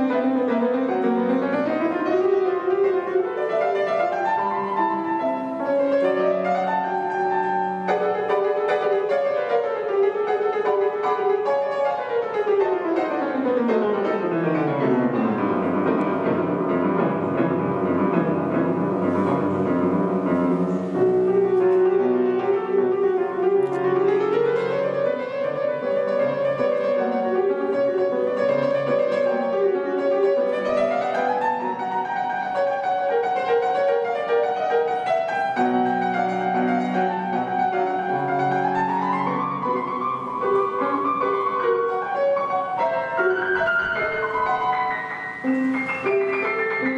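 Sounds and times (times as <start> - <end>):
solo classical piano: 0.0 - 46.9.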